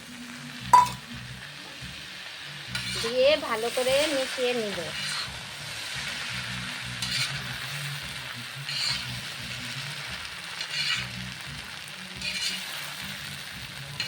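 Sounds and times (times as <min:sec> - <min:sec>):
noodles sizzling in a pan: 0:00.0 - 0:14.0
food being tossed in a pan: 0:02.6 - 0:14.0.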